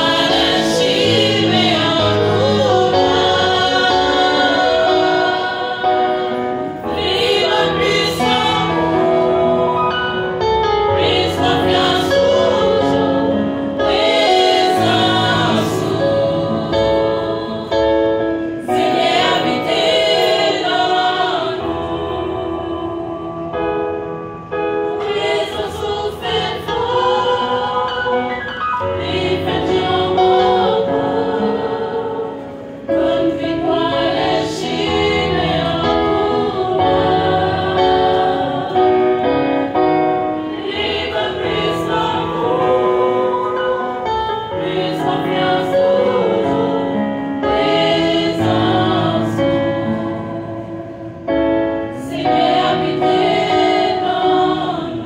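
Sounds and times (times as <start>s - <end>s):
women's choir singing a hymn: 0.0s - 55.0s.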